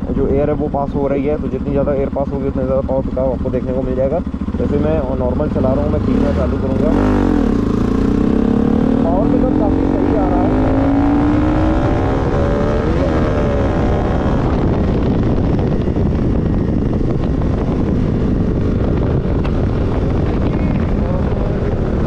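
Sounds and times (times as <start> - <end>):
motorcycle engine accelerating: 0.0 - 22.0
wind rushing over microphone: 0.0 - 22.0.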